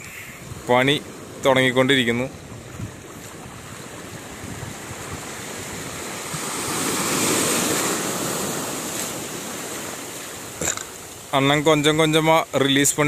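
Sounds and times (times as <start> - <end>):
sea waves washing in: 0.0 - 13.0.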